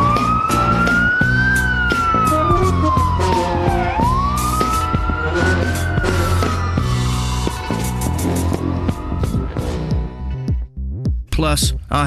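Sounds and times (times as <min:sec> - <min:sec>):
emergency siren wailing: 0:00.0 - 0:10.4
background music: 0:00.0 - 0:12.0.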